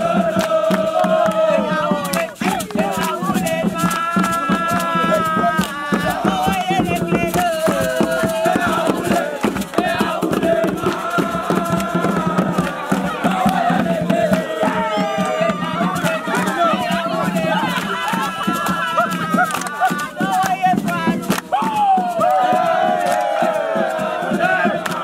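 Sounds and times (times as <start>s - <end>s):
group chanting in unison: 0.0s - 25.0s
sharp percussive hits: 0.0s - 25.0s.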